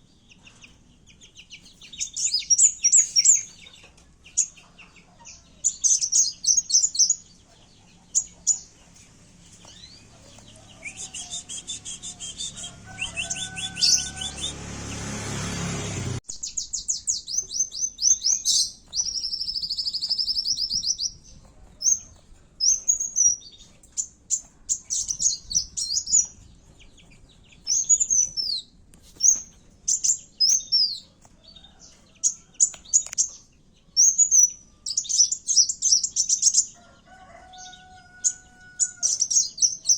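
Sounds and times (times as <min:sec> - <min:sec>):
sunbird chirping and trilling: 0:00.0 - 0:36.8, 0:37.5 - 0:39.9.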